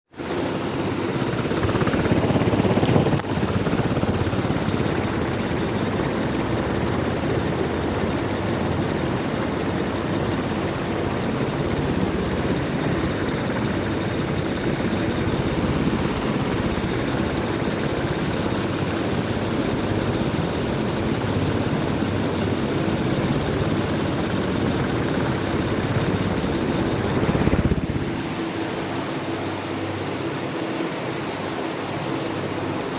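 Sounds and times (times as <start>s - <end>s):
fan whirring hum: 0.2s - 32.9s
high-pitched fan whine: 0.2s - 32.9s.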